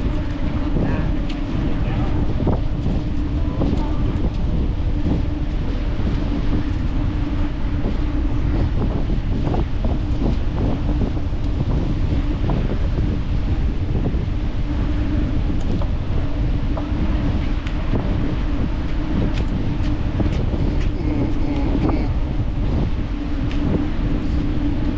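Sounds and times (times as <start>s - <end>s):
constant low hum: 0.0s - 24.9s
wind buffeting microphone: 0.0s - 24.9s.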